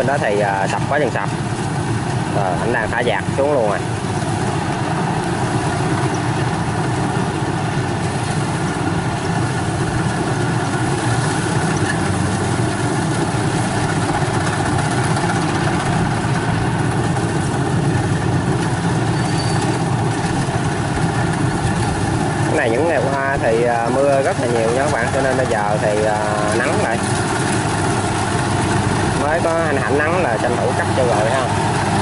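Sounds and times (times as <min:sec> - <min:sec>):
combine harvester engine droning: 0:00.0 - 0:32.0.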